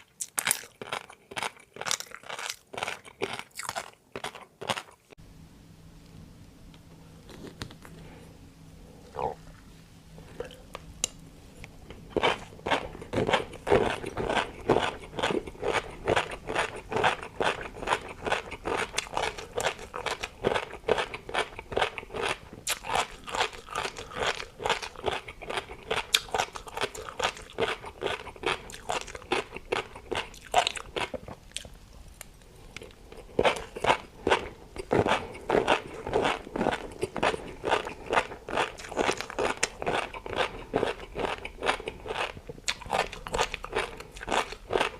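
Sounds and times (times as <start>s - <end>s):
person chewing crunchy food: 0.0s - 5.2s, 7.2s - 8.1s, 11.7s - 44.9s.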